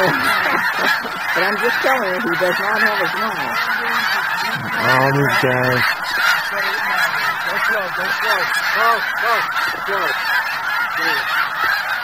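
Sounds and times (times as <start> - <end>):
flock of geese honking: 0.0 - 12.0.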